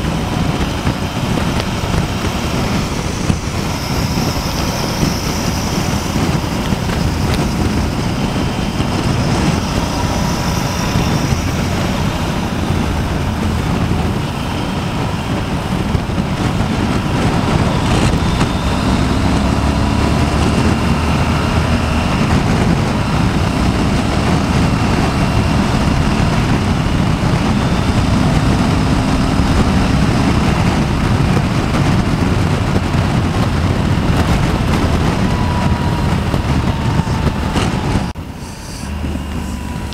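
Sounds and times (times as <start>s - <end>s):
motorcycle engine hum: 0.0s - 39.9s
wind rush over microphone: 0.0s - 39.9s.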